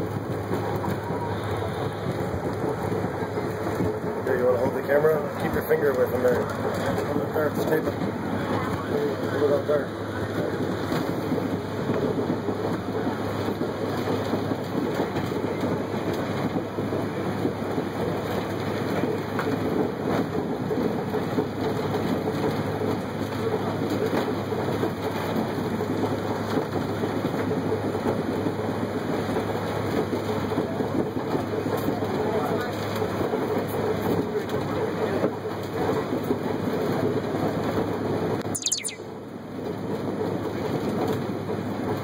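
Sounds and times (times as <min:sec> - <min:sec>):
train coach rattling and rumbling: 0:00.0 - 0:38.4.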